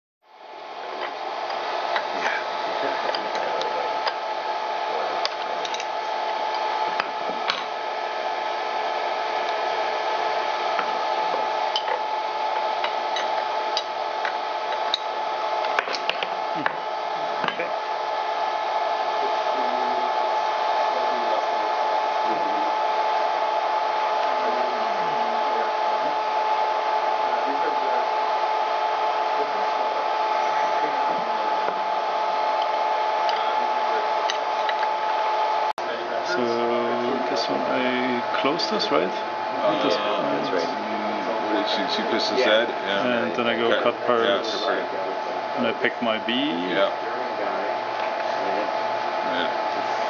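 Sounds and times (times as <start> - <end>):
router spindle whirring: 0.4 - 50.0.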